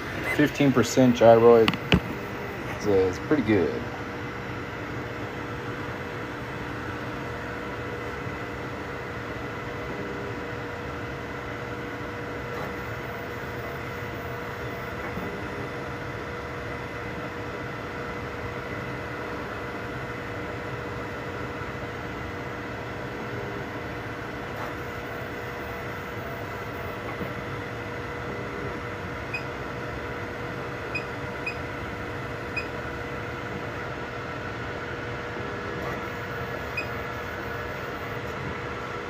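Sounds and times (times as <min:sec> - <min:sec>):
printer fans and motors whirring: 0:00.0 - 0:39.0.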